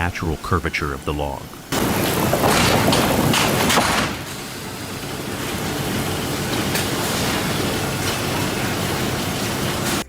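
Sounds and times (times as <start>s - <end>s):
sawmill machinery roar: 0.0s - 10.0s.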